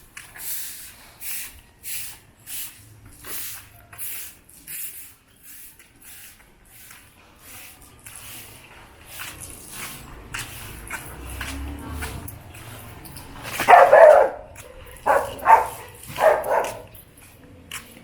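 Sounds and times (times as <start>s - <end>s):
footsteps on paved street: 0.0s - 18.0s.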